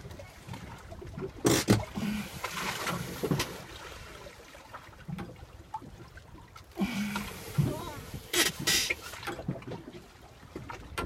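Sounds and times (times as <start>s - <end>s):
water lapping against a boat hull: 0.0s - 11.0s.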